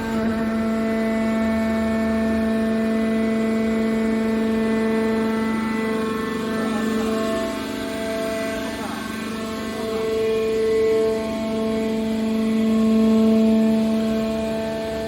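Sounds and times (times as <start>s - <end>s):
hydraulic machine hum: 0.0s - 15.0s.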